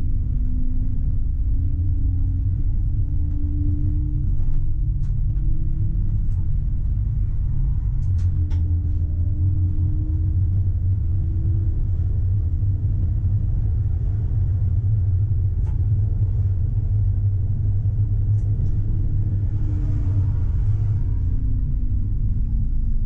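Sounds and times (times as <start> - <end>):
faint motor whine: 0.0 - 23.0
tram rumbling on track: 0.0 - 23.0.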